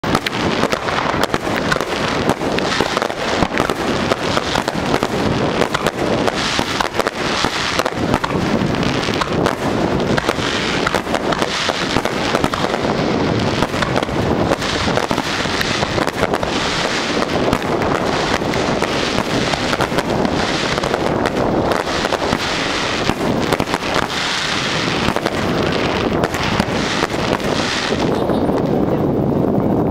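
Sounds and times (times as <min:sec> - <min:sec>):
fireworks bursting and crackling: 0:00.0 - 0:29.9.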